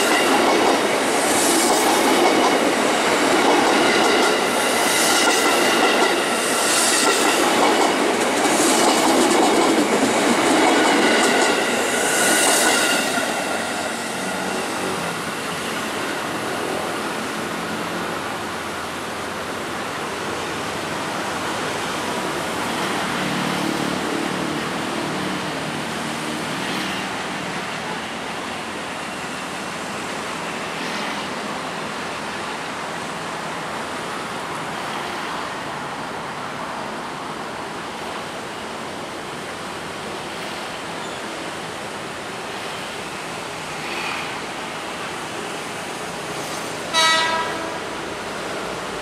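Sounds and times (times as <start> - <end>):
electric train rushing: 0.0 - 49.0.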